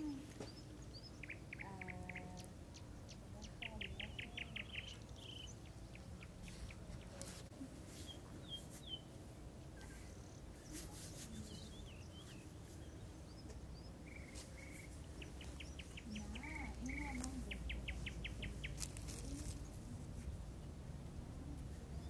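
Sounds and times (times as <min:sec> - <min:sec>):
low background rumble: 0:00.0 - 0:22.0
songbirds chirping: 0:00.0 - 0:22.0.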